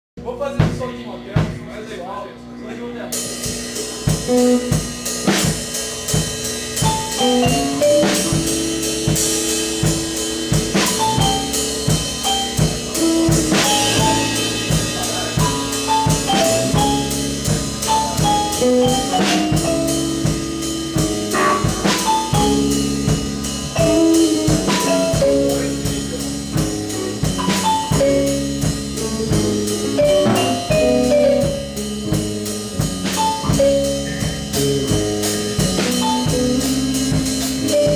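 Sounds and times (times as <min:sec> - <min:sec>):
steady drum beat: 0:00.2 - 0:37.9
sustained bass notes: 0:00.2 - 0:37.9
lead instrument runs: 0:00.3 - 0:37.9.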